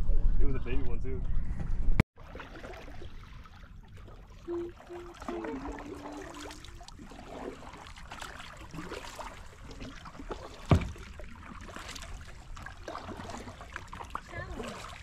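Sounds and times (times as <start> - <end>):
small water splashes: 2.2 - 15.0
water dripping off paddle: 2.3 - 15.0.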